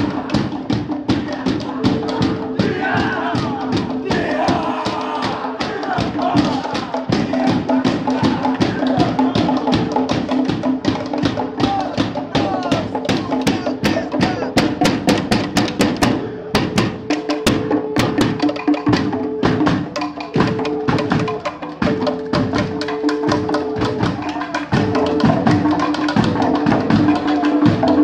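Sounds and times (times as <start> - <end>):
drums and wooden percussion: 0.0 - 28.0.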